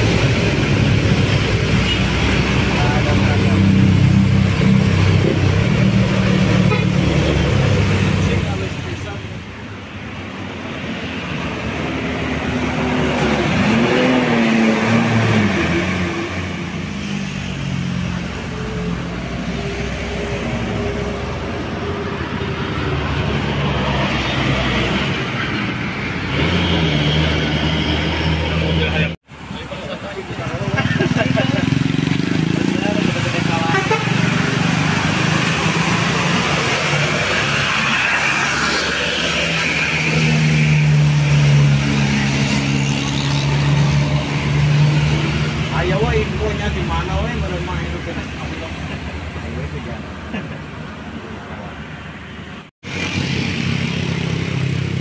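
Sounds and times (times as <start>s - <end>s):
tyre and road noise: 0.0s - 55.0s.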